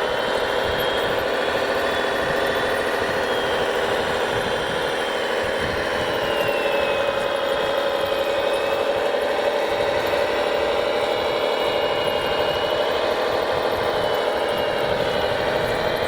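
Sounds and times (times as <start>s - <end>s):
electric motors whirring: 0.0s - 16.0s
high motor whine: 0.0s - 16.0s.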